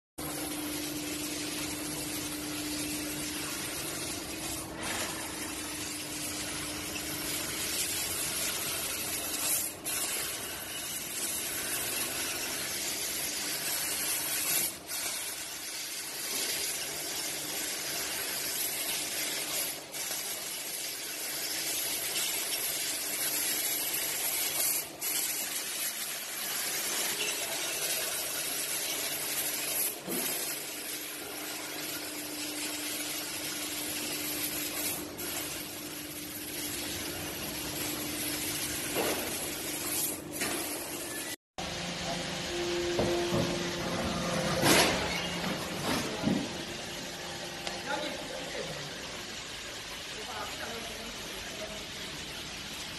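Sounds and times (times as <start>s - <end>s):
laser cutter gas jet hiss: 0.2s - 45.4s.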